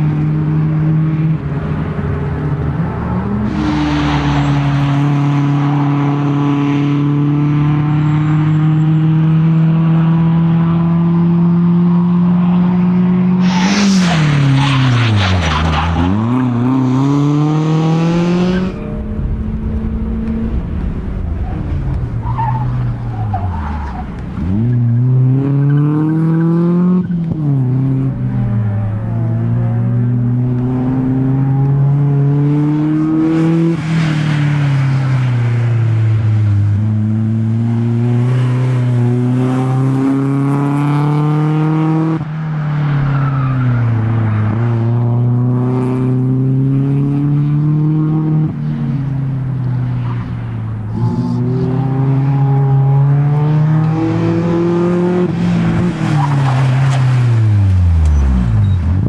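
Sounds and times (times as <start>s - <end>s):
race car engine revving: 0.0s - 42.3s, 43.9s - 59.0s.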